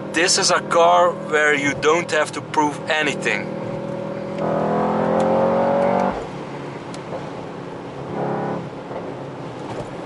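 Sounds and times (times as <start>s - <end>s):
car engine accelerating: 0.0s - 10.0s
road noise drone: 0.0s - 10.0s.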